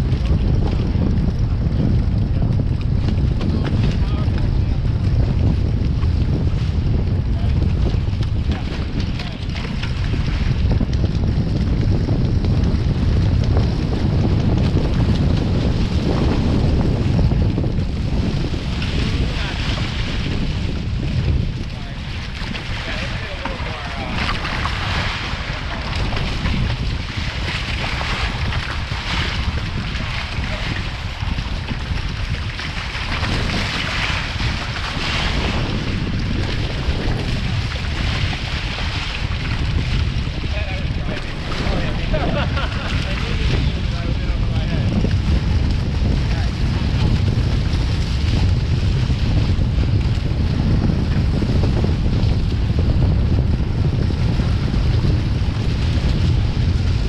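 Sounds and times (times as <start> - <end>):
water rushing past hulls: 0.0 - 50.3
wind buffeting microphone: 0.0 - 57.0.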